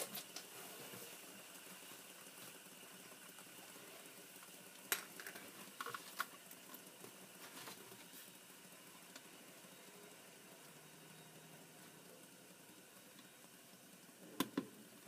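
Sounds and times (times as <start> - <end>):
fidget spinners whirring: 0.0 - 15.0.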